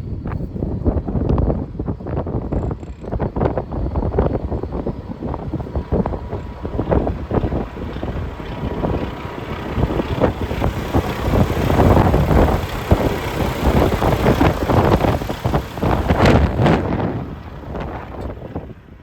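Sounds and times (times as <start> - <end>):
wind buffeting microphone: 0.0 - 19.0
truck diesel engine running: 0.5 - 19.0.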